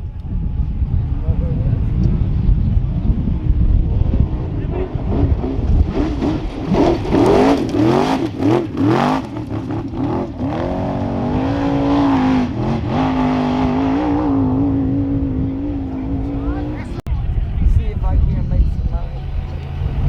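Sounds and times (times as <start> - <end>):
truck engine revving: 1.0 - 17.1.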